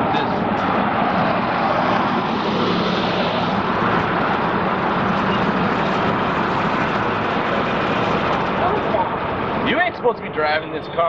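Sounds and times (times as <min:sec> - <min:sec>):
loud vehicle roar: 0:00.0 - 0:10.4.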